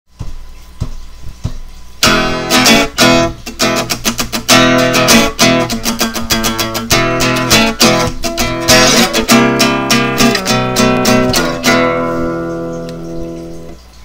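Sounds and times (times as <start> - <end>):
strummed guitar music: 2.0 - 13.9.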